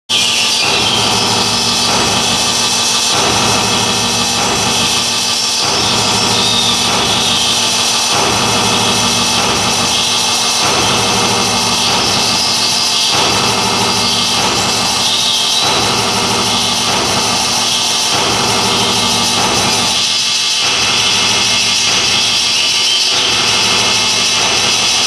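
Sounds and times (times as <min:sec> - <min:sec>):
noisy electronic drone music: 0:00.1 - 0:25.0.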